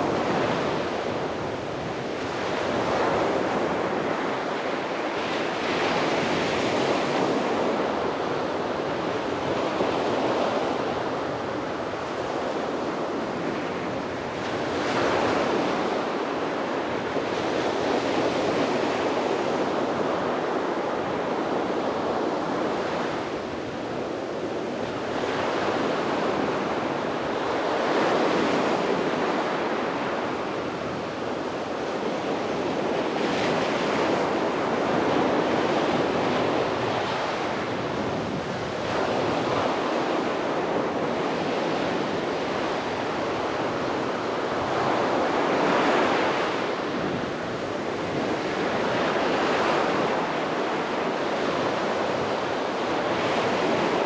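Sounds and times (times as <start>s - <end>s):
sea waves breaking on beach: 0.0s - 54.0s
wind on microphone: 0.0s - 54.0s.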